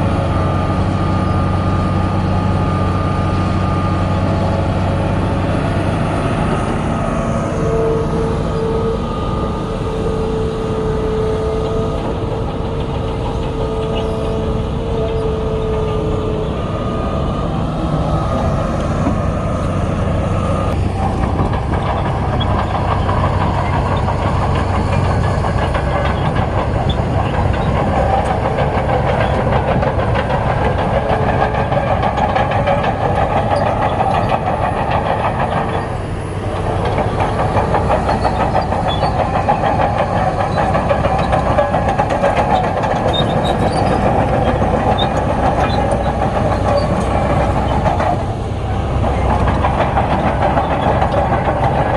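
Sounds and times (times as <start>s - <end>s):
diesel engine under load: 0.0s - 51.9s
steady whine: 0.0s - 51.9s
metallic track clatter: 6.6s - 19.7s, 20.7s - 51.9s.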